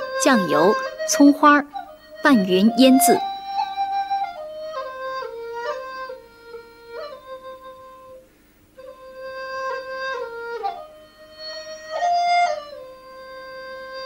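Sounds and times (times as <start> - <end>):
flute playing slow melody: 0.0 - 14.0.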